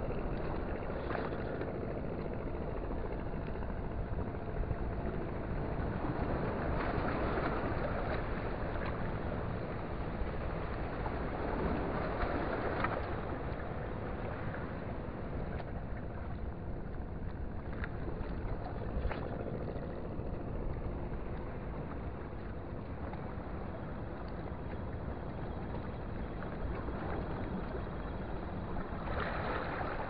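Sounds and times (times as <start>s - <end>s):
faint steady drone: 0.0s - 30.0s
seaside wind: 0.0s - 30.0s
water noise: 0.0s - 30.0s.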